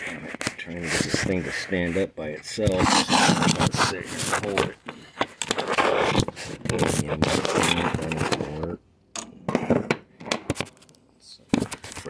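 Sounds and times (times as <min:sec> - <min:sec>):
phone handling rubbing and scraping: 0:00.0 - 0:08.7, 0:09.3 - 0:10.9.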